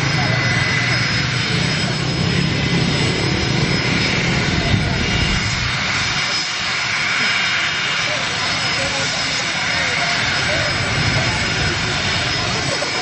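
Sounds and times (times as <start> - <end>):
jet engines rushing with high whine: 0.0 - 13.0.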